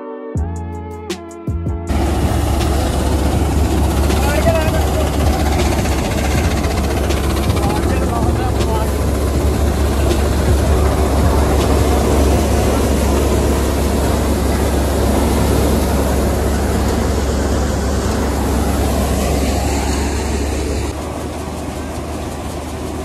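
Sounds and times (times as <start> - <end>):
thresher drum and fan drone: 1.2 - 23.0
tractor engine hum: 1.8 - 23.0.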